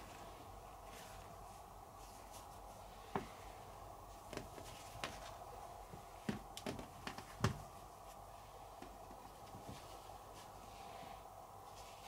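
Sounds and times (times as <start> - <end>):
felt pads tapping and rustling: 0.0 - 10.6
faint steady hum: 0.0 - 12.0.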